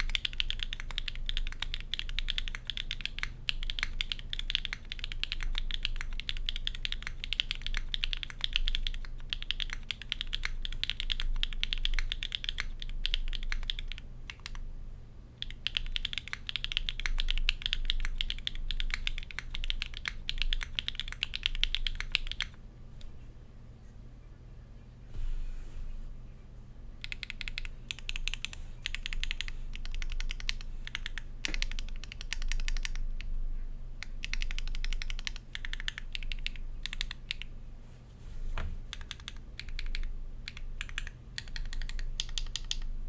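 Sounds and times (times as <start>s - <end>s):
fast mechanical keyboard typing: 0.0s - 14.6s, 15.4s - 22.6s, 27.0s - 33.3s, 34.0s - 37.5s, 38.9s - 42.9s.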